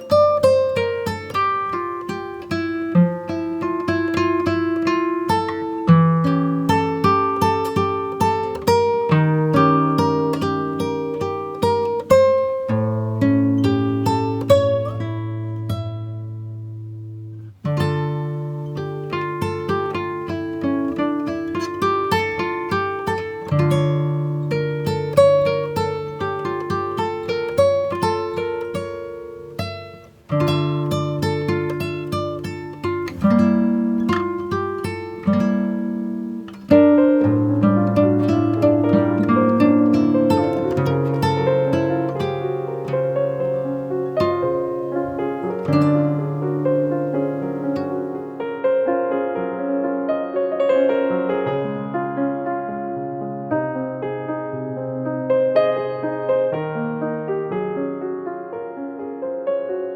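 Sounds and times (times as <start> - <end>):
fingerpicked acoustic guitar: 0.0 - 49.3, 49.9 - 59.9.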